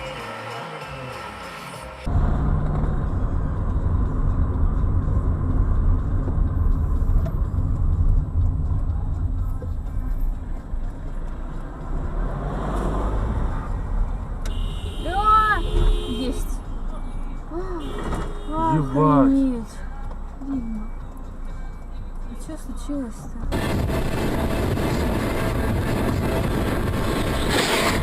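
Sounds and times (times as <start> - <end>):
car driving rumble: 2.0 - 28.0.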